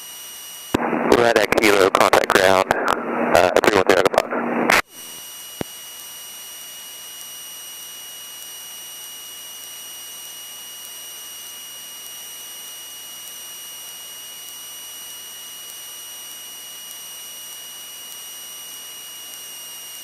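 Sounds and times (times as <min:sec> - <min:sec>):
high-pitched whine: 0:00.0 - 0:20.0.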